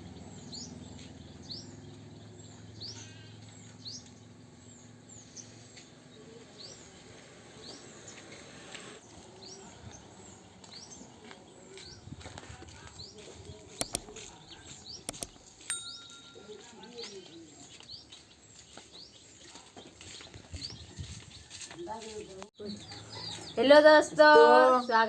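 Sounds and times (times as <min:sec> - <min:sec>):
quiet outdoor background noise: 0:00.0 - 0:25.0
small birds chirping: 0:00.0 - 0:25.0.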